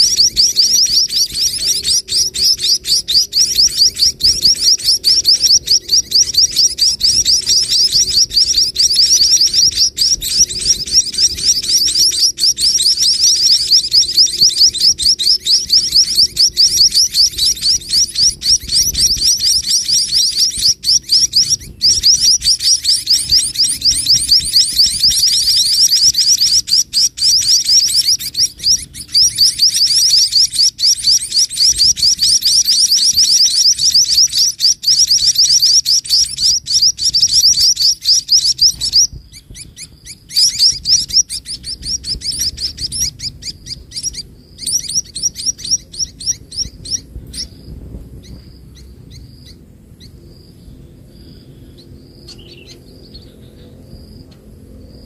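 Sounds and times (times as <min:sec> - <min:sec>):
nestlings chirping: 0:00.0 - 0:55.0.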